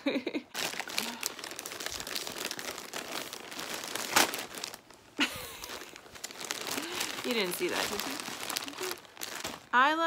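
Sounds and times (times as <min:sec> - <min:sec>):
plastic bag crinkling: 0:00.4 - 0:10.0
loud bag crackle: 0:00.5 - 0:10.0.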